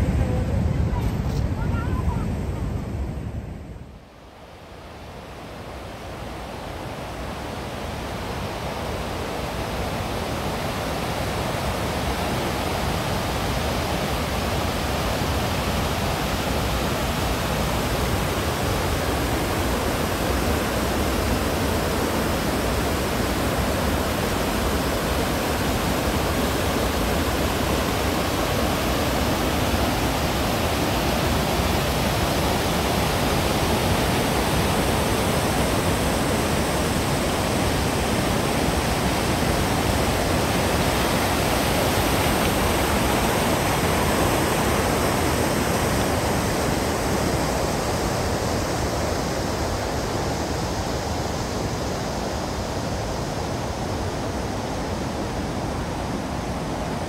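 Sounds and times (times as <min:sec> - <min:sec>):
waterfall rushing: 0:04.8 - 0:57.0.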